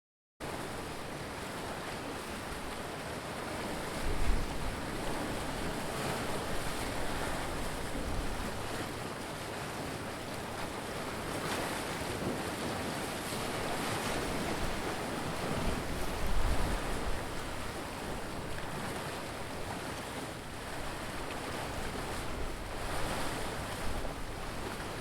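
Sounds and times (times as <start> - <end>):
ocean waves breaking: 0.4 - 25.0.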